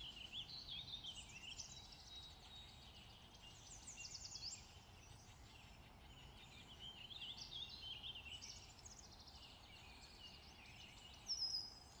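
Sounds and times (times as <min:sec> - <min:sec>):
low background hiss: 0:00.0 - 0:12.0.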